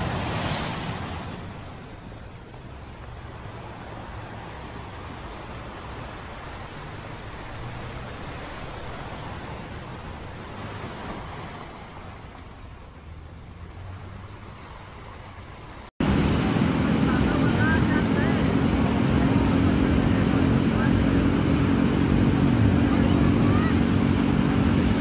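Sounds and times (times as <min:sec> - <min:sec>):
sea surf washing: 0:00.0 - 0:25.0.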